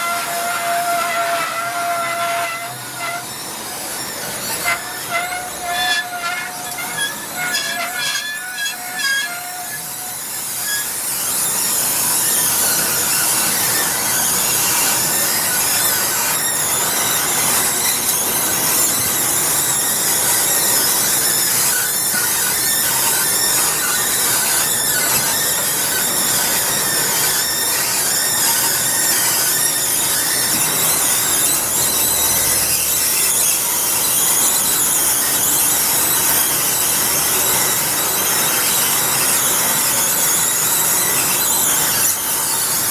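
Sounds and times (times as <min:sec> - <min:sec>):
stair lift squealing: 0:00.0 - 0:42.9.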